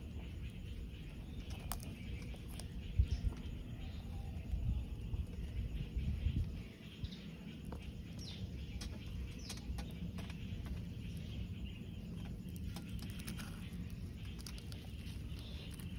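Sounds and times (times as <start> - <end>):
low steady rumble: 0.0 - 15.9.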